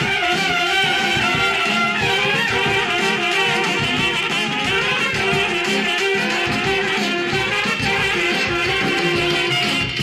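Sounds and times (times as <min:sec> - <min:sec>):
steady drum beat: 0:00.0 - 0:10.0
trumpets and horns melody: 0:00.0 - 0:10.0.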